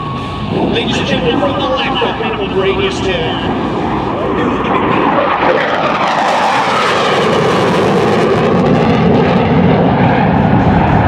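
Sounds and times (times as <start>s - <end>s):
jet flying past in afterburner: 0.0s - 11.0s.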